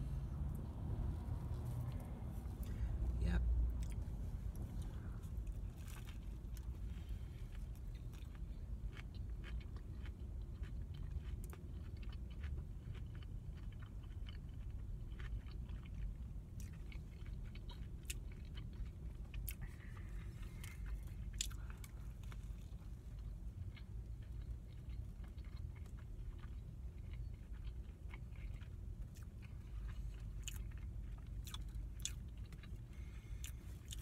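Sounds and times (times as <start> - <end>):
low steady rumble: 0.0 - 34.0
person chewing and biting: 3.8 - 34.0.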